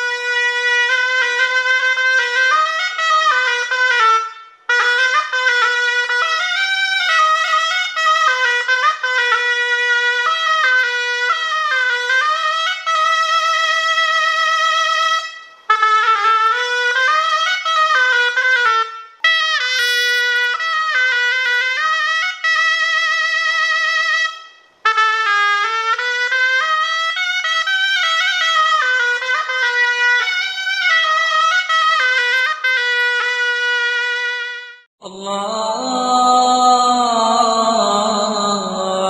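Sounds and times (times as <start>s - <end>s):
double-reed shawm melody: 0.0s - 34.9s.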